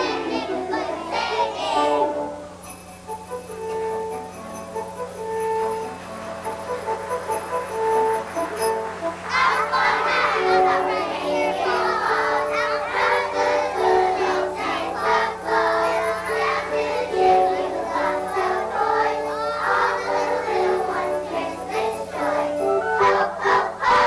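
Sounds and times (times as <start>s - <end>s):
children's choir singing: 0.0s - 2.6s, 6.4s - 24.0s
musical accompaniment: 0.0s - 24.0s.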